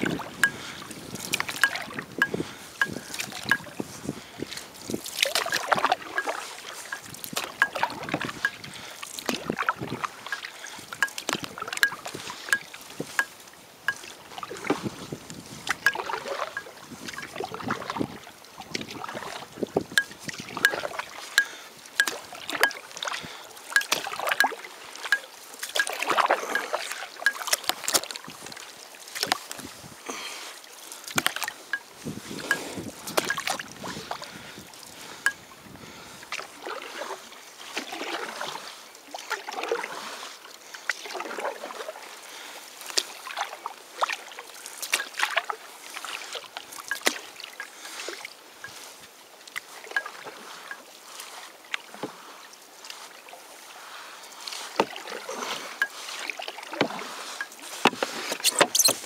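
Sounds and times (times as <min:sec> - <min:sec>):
water lapping against canoe: 0:00.0 - 0:59.0.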